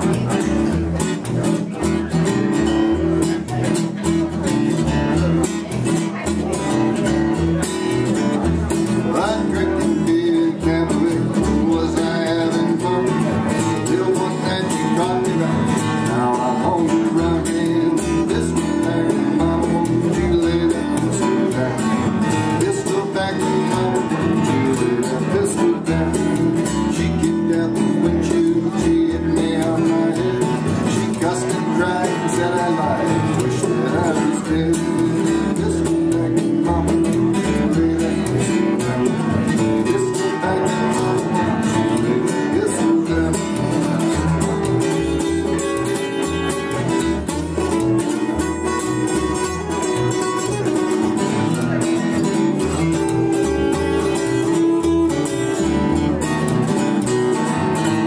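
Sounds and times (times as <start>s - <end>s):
acoustic guitar strumming: 0.0s - 58.0s
man singing: 0.0s - 58.0s
upright bass plucked: 0.0s - 58.0s.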